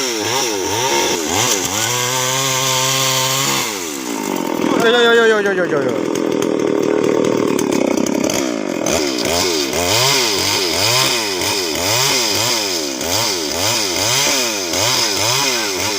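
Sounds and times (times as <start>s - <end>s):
chainsaw running: 0.0s - 15.9s.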